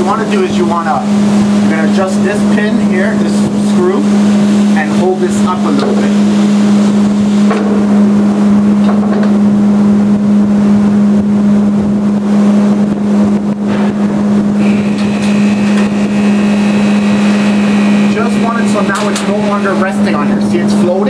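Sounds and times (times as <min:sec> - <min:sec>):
high steady whine: 0:00.0 - 0:21.0
machine hum: 0:00.0 - 0:21.0.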